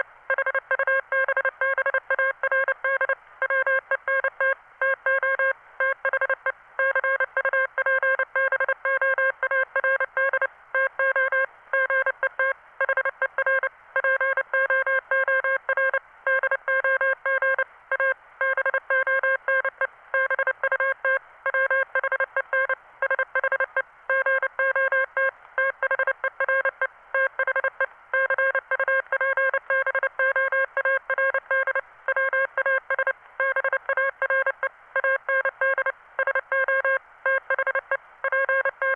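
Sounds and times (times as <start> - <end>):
morse code tone: 0.3 - 38.9.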